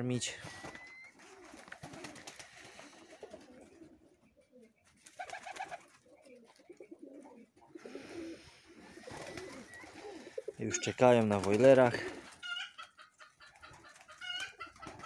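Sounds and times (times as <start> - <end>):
pigeons cooing: 0.4 - 15.0.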